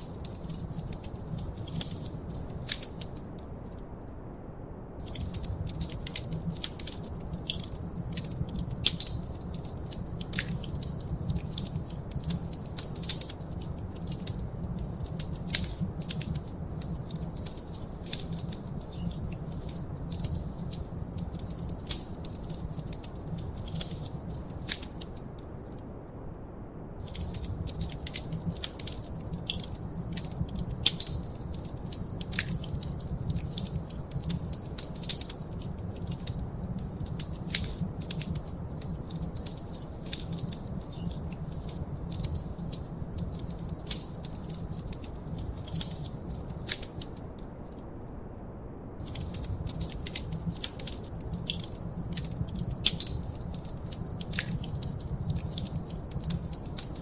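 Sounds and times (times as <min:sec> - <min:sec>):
wood fire crackling: 0:00.0 - 0:04.0, 0:05.0 - 0:25.8, 0:27.0 - 0:47.9, 0:49.0 - 0:57.0.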